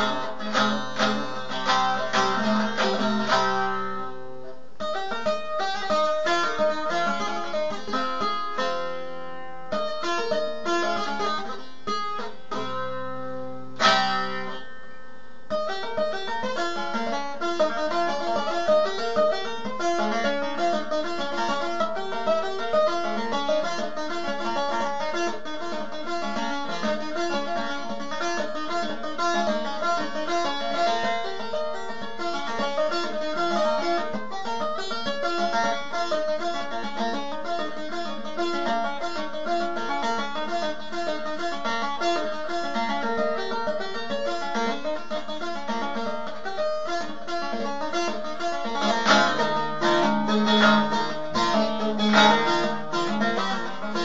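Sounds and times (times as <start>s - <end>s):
long-necked lute plucked fast: 0.0s - 54.0s.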